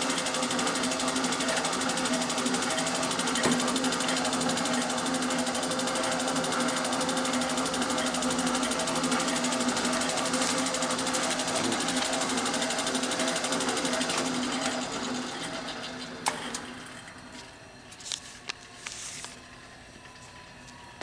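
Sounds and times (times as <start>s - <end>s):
grinder running: 0.0s - 19.5s.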